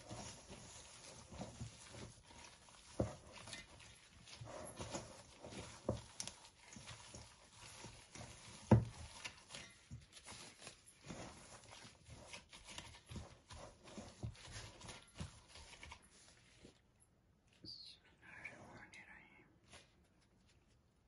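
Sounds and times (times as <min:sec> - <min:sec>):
wet mixture squelching: 0:00.0 - 0:17.6.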